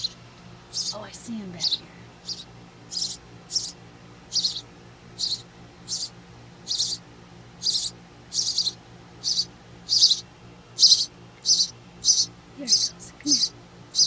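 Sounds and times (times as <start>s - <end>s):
nestlings begging chirps: 0.0s - 14.0s.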